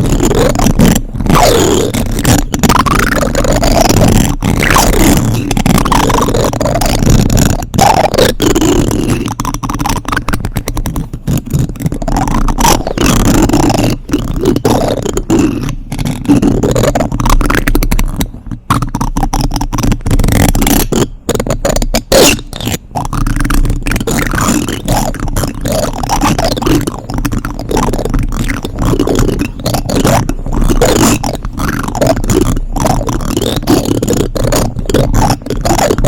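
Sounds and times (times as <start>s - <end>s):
plastic spoons scraping microphone: 0.0s - 36.0s.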